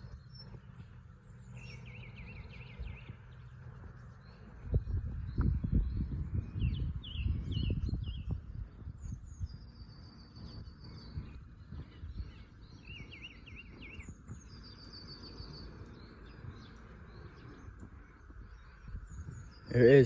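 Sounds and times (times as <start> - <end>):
low background rumble: 0.0 - 20.0
songbirds chirping and trilling: 0.0 - 20.0.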